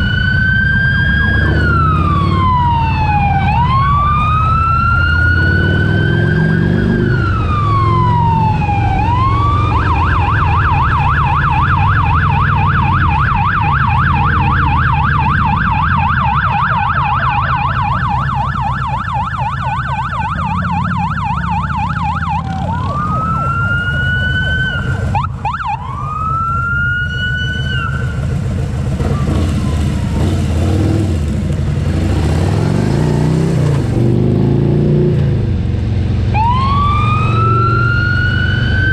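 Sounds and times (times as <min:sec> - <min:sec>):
emergency vehicle siren: 0:00.0 - 0:31.2, 0:35.8 - 0:38.9
motorcycle engine rumble: 0:00.0 - 0:34.4.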